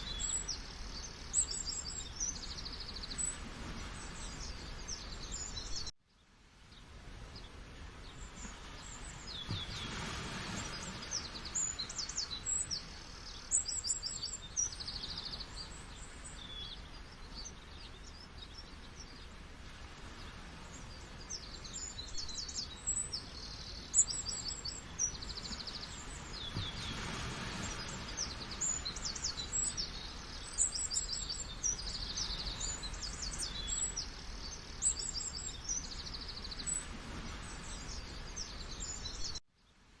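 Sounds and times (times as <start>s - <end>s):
songbirds chirping and trilling: 0.0s - 39.8s.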